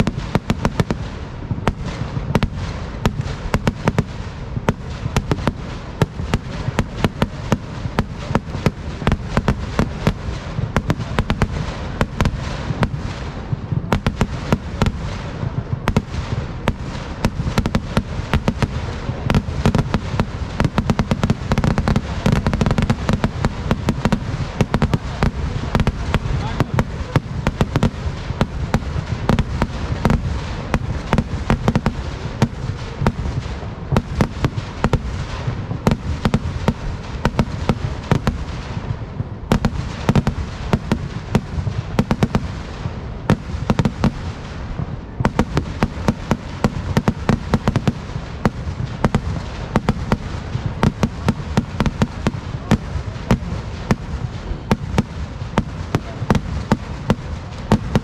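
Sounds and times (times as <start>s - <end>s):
fireworks bangs and crackles: 0.0s - 58.0s
loud firework cracks: 0.0s - 58.0s.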